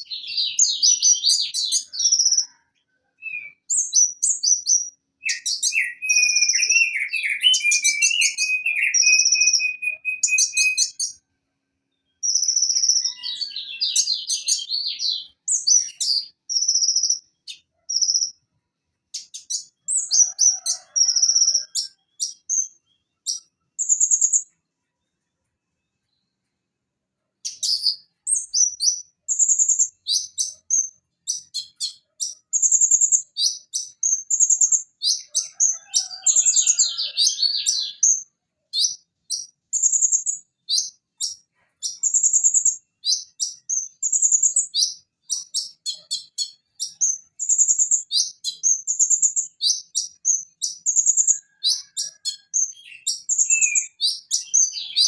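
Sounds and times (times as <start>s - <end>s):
sunbird high chirps and trills: 0.0s - 11.2s, 11.9s - 18.5s, 19.1s - 24.6s, 27.4s - 55.0s.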